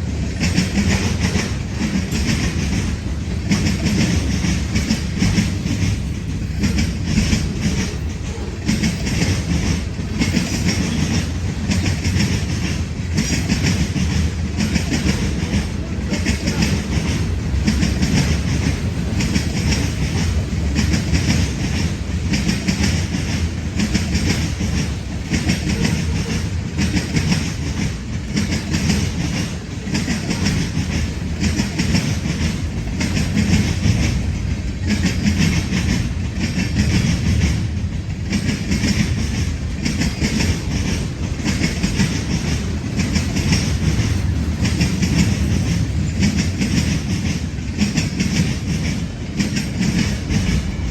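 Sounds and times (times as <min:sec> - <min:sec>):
train wheels clicking over rail joints: 0:00.0 - 0:50.9.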